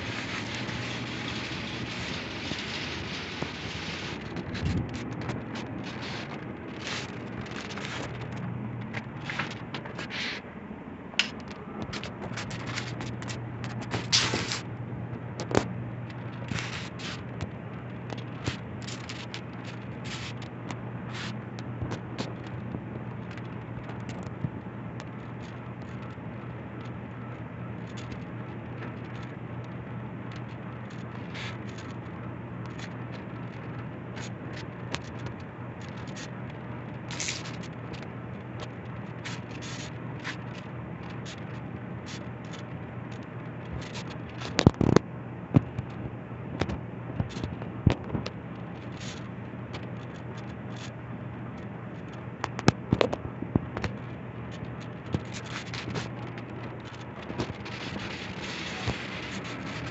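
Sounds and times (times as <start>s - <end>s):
sharp clicks and crackles: 0.0s - 10.4s, 11.2s - 59.9s
ceiling fan humming: 0.0s - 59.9s.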